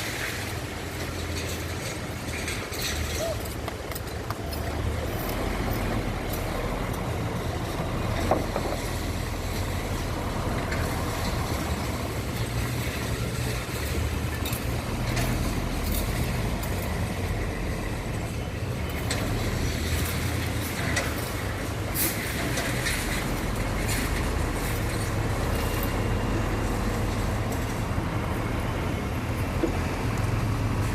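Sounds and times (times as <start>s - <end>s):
diesel truck engine running: 3.4s - 30.9s.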